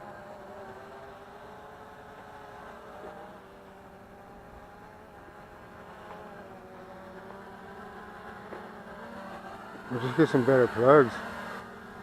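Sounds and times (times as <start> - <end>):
quadcopter propellers whirring: 0.0 - 12.0.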